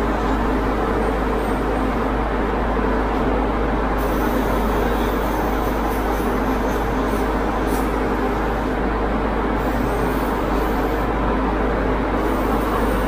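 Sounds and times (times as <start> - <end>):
air compressor motor humming: 0.0 - 13.0.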